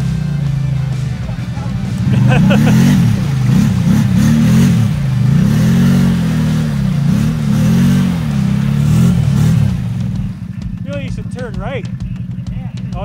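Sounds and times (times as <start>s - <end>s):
quad engine revving: 0.0s - 13.0s
tires churning through mud: 0.0s - 13.0s.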